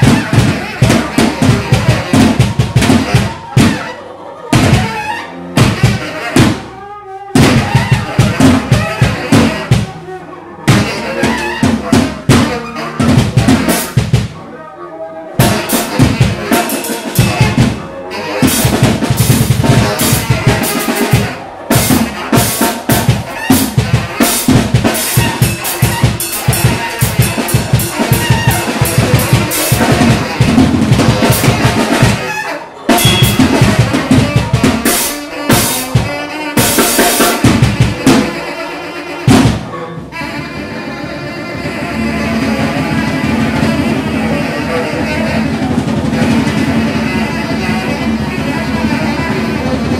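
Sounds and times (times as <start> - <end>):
drum kit played hard: 0.0 - 10.0, 10.7 - 14.4, 15.3 - 49.9.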